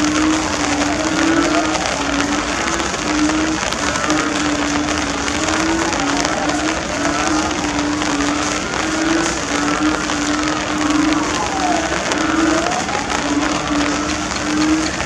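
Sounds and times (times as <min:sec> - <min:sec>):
faint gliding whines: 0:00.0 - 0:15.0
torrential rain pouring: 0:00.0 - 0:15.0.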